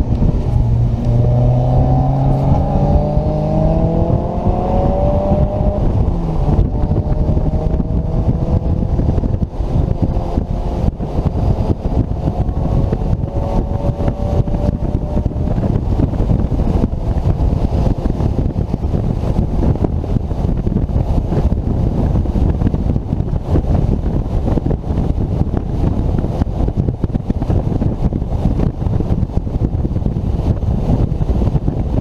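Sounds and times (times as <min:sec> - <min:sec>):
wind buffeting: 0:00.0 - 0:32.0.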